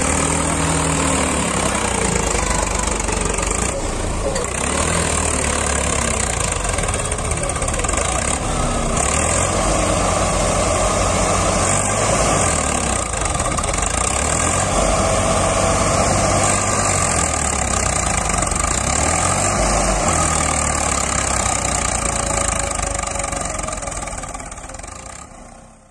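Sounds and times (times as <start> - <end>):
diesel tractor engine under load: 0.0 - 25.9.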